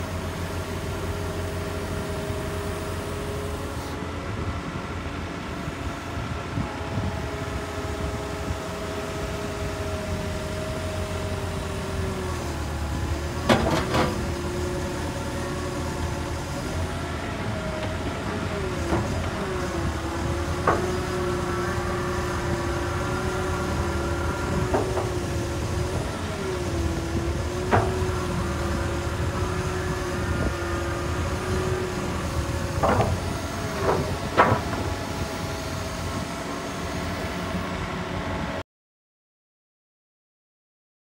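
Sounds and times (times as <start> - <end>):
excavator engine running: 0.0 - 38.6.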